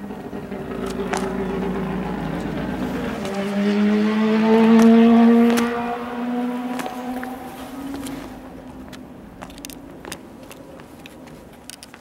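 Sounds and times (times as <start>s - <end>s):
race car rotary engine passing: 0.0s - 10.0s.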